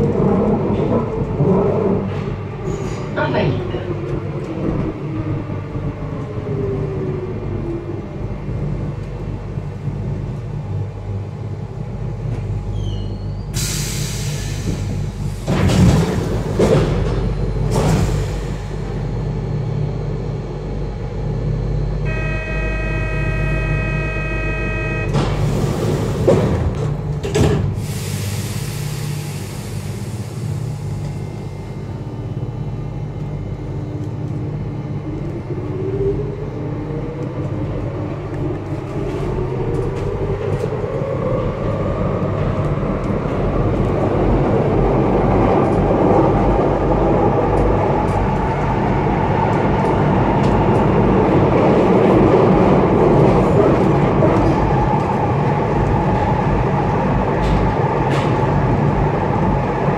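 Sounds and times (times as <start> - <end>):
train motor hum and whine: 0.0 - 59.9
train running noise: 0.0 - 59.9.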